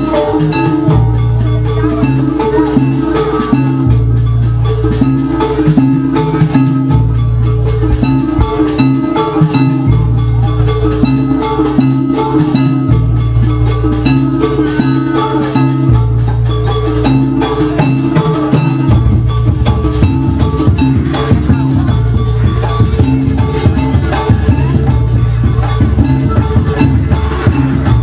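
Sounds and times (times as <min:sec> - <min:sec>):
deep sustained bass notes: 0:00.0 - 0:28.0
drums: 0:00.0 - 0:28.0
metal mallet instruments melody: 0:00.0 - 0:28.0.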